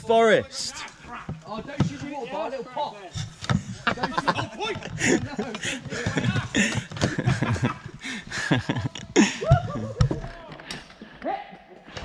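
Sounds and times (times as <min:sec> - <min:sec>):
men laughing: 0:00.7 - 0:10.5.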